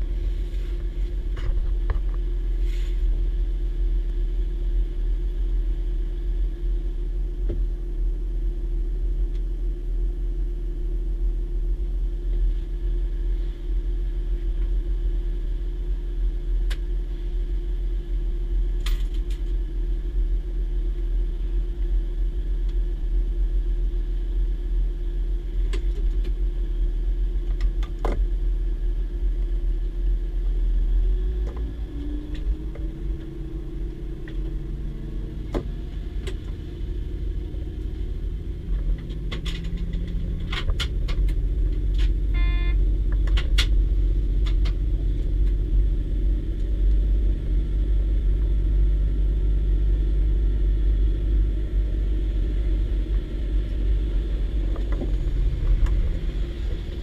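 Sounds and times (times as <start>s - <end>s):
train diesel engine rumble: 0.0s - 57.0s.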